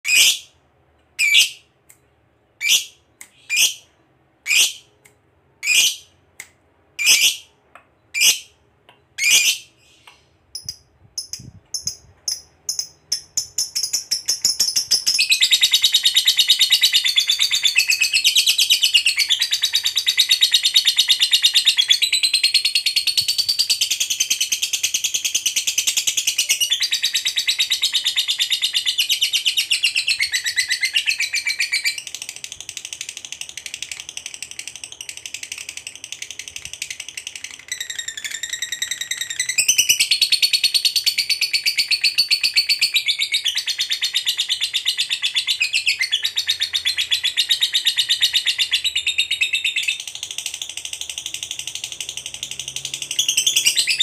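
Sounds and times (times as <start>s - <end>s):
lovebird chattering calls: 5.6s - 6.1s, 7.0s - 7.5s, 9.2s - 10.0s, 10.6s - 54.0s.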